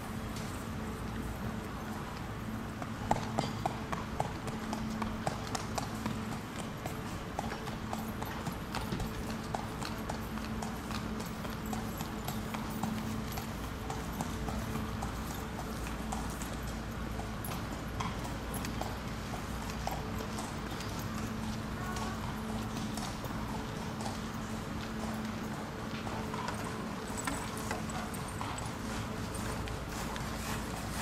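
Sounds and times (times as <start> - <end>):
horse hooves on pavement: 0.1 - 31.0.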